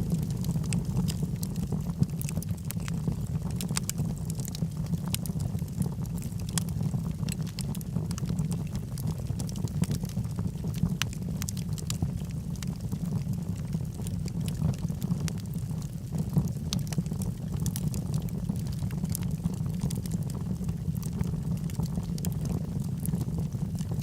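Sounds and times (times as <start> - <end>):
wood crackling and popping: 0.0 - 24.0.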